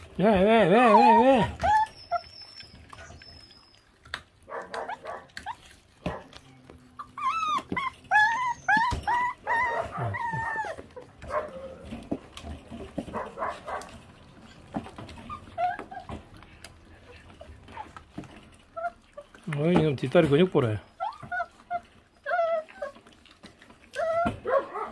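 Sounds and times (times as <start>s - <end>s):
puppies gnawing on meat and bone: 0.0s - 24.9s
puppies whimpering and yipping: 0.0s - 24.9s.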